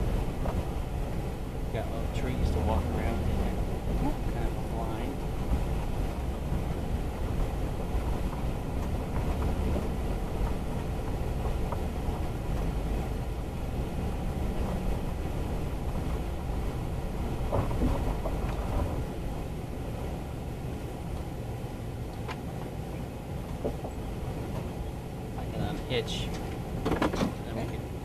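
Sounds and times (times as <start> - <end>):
vehicle rumbling over gravel: 0.0 - 27.7.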